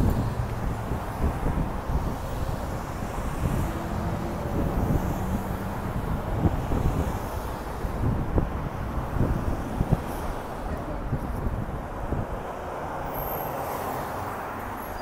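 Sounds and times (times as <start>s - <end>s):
wind buffeting microphone: 0.0s - 12.5s
car traffic passing: 0.0s - 15.0s
city bus approaching: 0.0s - 15.0s.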